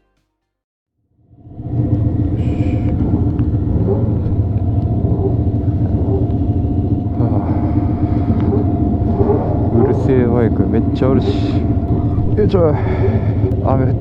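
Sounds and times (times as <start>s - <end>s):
motorcycle engine idling: 1.3s - 14.0s.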